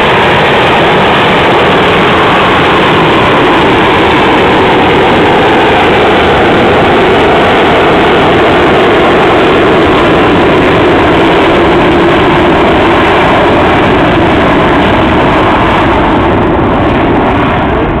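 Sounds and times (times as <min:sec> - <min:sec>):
jet roar: 0:00.0 - 0:18.0.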